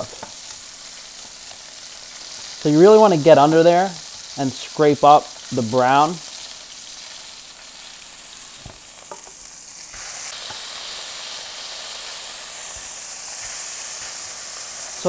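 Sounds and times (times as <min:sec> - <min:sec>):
burger patties sizzling in a pan: 0:00.0 - 0:15.0.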